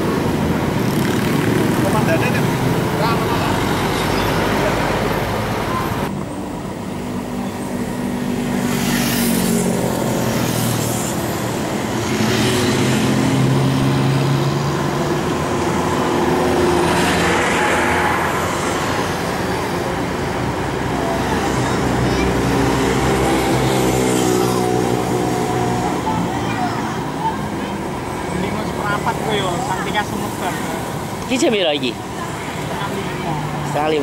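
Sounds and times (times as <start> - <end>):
engine drones: 0.0 - 34.0
road traffic passing: 0.0 - 34.0.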